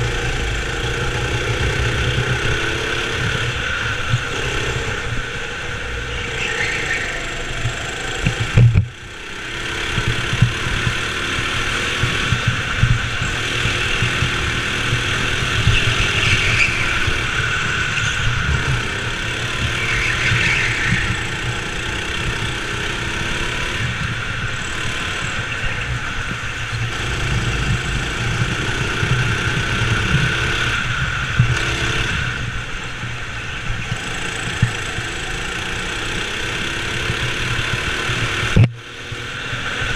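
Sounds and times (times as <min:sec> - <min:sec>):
go-kart motor running: 0:00.0 - 0:39.9.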